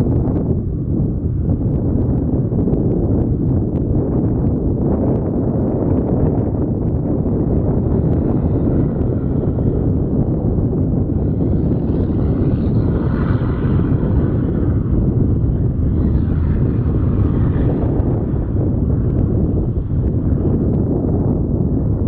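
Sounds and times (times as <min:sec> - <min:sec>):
jet engines: 0:00.0 - 0:22.0
wind buffeting microphone: 0:00.0 - 0:22.0.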